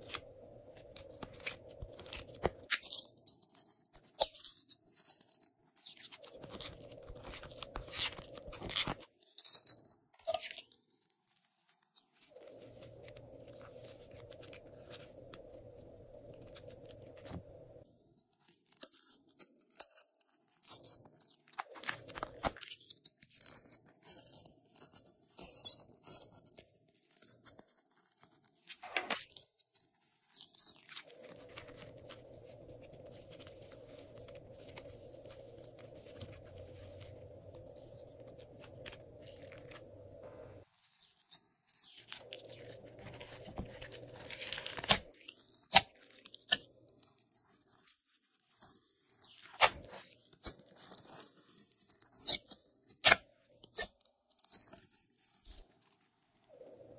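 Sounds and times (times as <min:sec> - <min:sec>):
hands squeezing sticky clay: 0:00.0 - 0:56.6.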